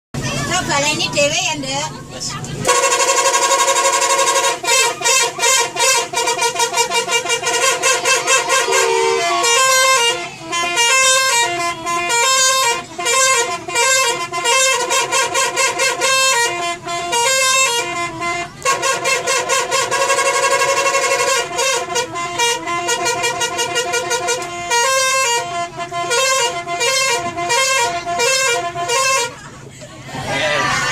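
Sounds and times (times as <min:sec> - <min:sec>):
multi-tone musical bus horn: 0:02.6 - 0:30.9.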